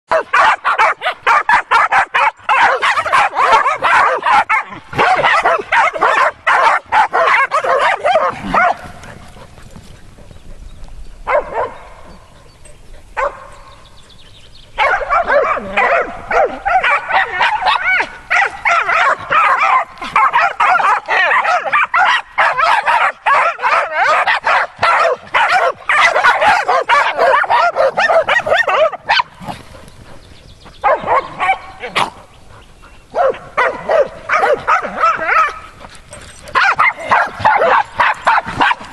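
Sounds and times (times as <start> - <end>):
dogs barking and yipping: 0.1 - 38.9.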